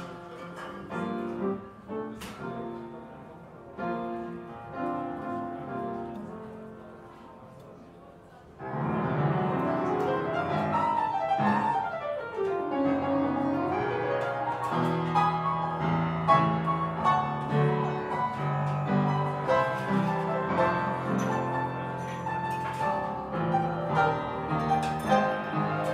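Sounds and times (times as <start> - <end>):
jazz piano: 0.0 - 25.9.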